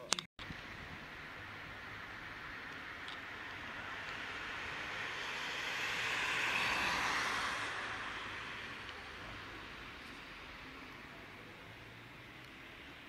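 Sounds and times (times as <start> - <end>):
tyres hissing on wet asphalt: 0.5 - 13.0.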